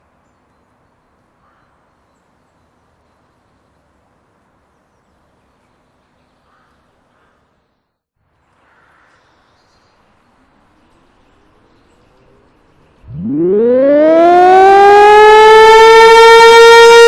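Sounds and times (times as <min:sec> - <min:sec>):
faint outdoor background noise: 0:00.0 - 0:16.2.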